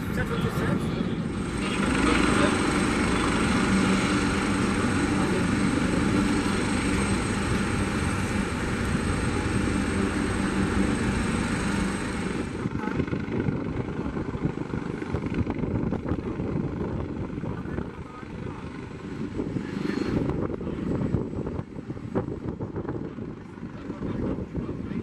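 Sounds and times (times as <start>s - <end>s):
helicopter rotor noise: 0.0s - 25.0s
high turbine whine: 0.0s - 25.0s.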